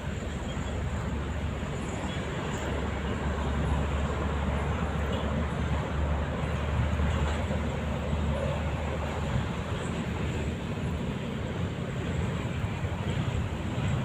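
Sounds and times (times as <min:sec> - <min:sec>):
traffic rumble on bridge: 0:00.0 - 0:14.0.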